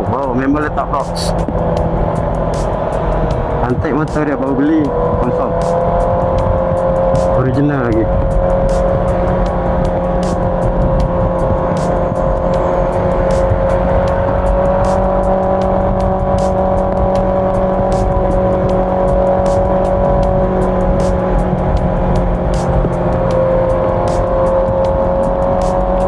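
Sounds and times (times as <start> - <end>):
low wind: 0.0 - 26.0
motorcycle engine cruising: 0.0 - 26.0
road rumble: 0.0 - 26.0.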